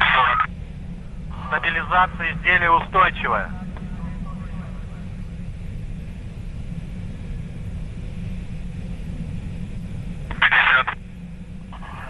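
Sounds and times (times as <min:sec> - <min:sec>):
rocket engine low rumble: 0:00.0 - 0:12.0.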